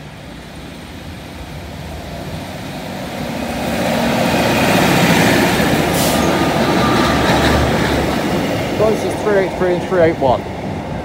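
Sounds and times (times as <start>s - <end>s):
diesel railcars passing: 0.0s - 11.0s.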